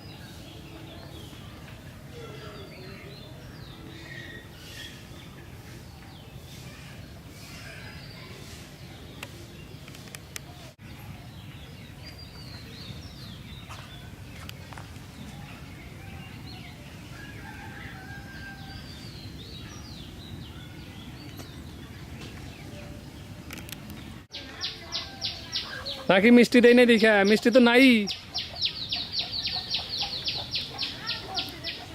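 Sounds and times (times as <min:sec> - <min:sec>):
birds chirping and calling: 0:00.0 - 0:31.9.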